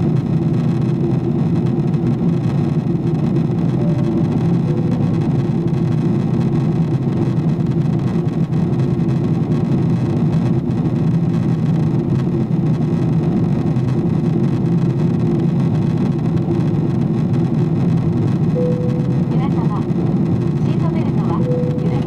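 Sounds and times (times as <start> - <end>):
airplane cabin engine drone: 0.0 - 22.0
constant hum: 0.0 - 22.0.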